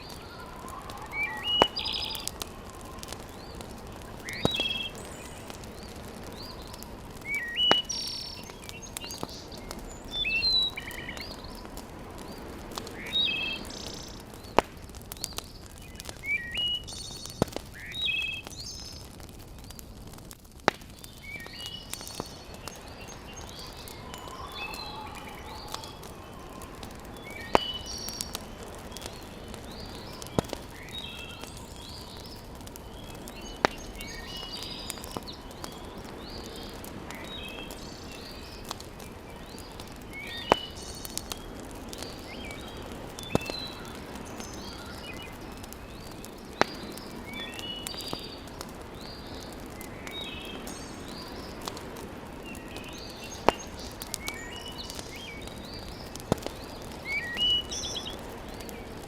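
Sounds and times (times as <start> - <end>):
birds chirping: 0.0 - 19.8, 20.9 - 59.0
fire crackling in fireplace: 0.0 - 59.0.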